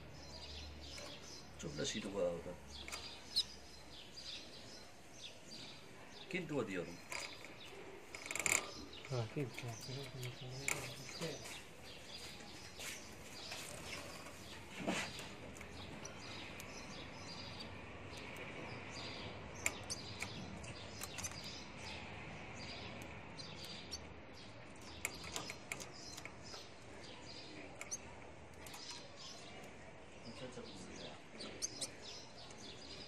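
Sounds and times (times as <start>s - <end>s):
cage birds chirping and twittering: 0.0s - 33.0s.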